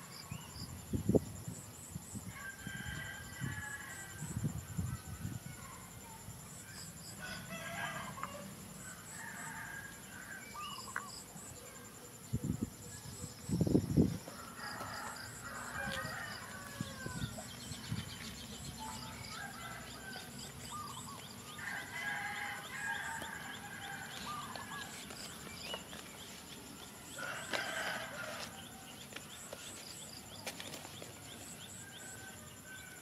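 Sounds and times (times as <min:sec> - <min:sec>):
high buzz of insects: 0:00.0 - 0:33.0.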